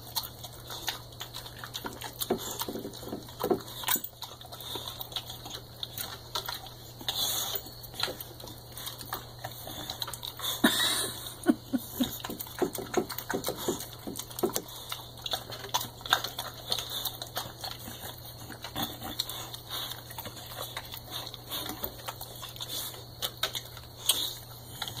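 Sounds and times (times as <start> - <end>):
dog chewing and licking: 0.0 - 25.0.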